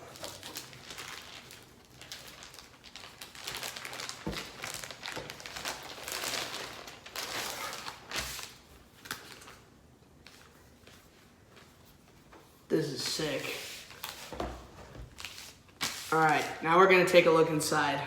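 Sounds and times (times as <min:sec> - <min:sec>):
packaging crinkling and rustling: 0:00.0 - 0:16.6.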